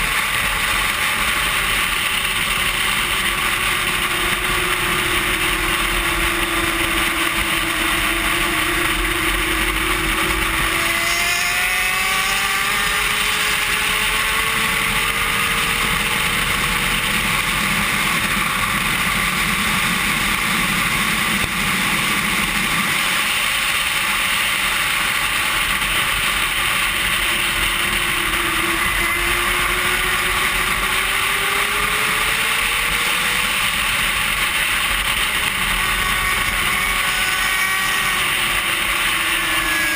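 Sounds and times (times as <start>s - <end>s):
sport bike engine running hard: 0.0s - 39.9s.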